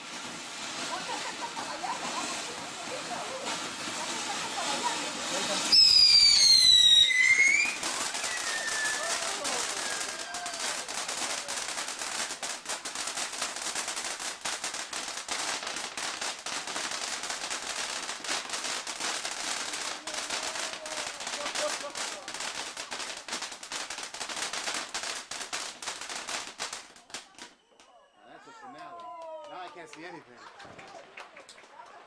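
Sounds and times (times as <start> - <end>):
firework fountain hissing: 0.0 - 27.6
firework crackling pops: 0.0 - 27.9, 28.9 - 32.0.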